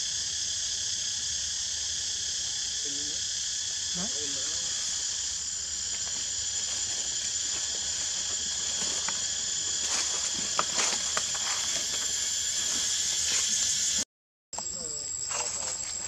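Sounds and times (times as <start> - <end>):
insects chorus: 0.0 - 14.0, 14.6 - 16.0.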